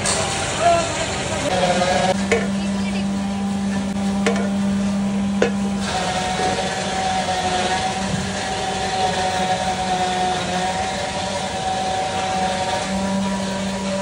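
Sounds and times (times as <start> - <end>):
machine-like hum: 0.0 - 14.0.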